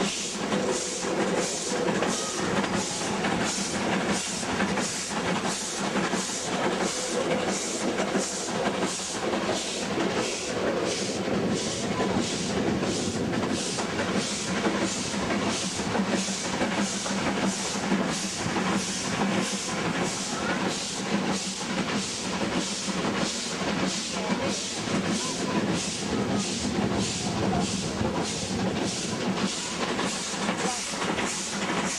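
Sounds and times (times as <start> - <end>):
steam locomotive chuffing: 0.0 - 31.9.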